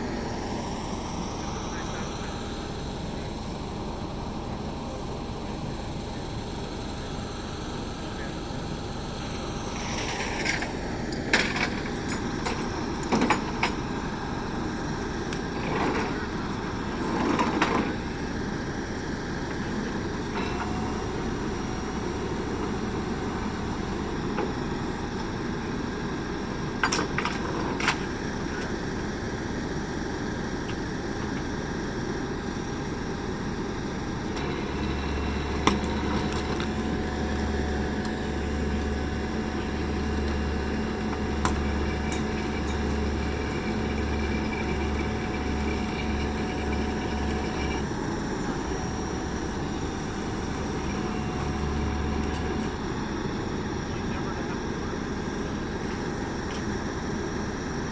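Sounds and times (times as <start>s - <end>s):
outdoor rumble: 0.0s - 57.9s.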